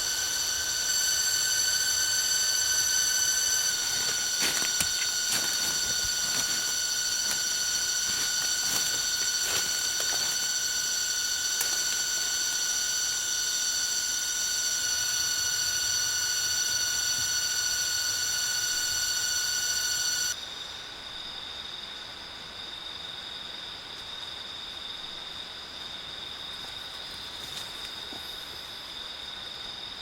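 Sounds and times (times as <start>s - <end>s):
cicadas droning: 0.0s - 30.0s
crickets chirping: 0.0s - 30.0s.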